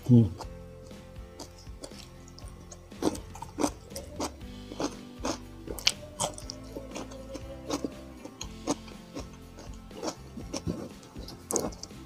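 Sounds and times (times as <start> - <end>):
background music: 0.0 - 12.0
wet chewing and lip smacks: 0.0 - 12.0.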